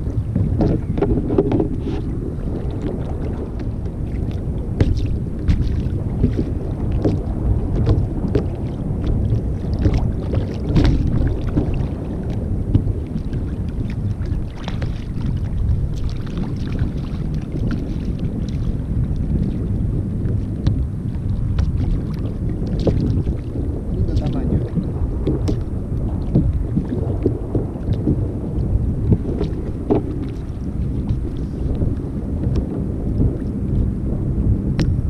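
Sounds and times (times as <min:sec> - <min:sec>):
water lapping against hull: 0:00.0 - 0:35.0
wind buffeting microphone: 0:00.0 - 0:35.0.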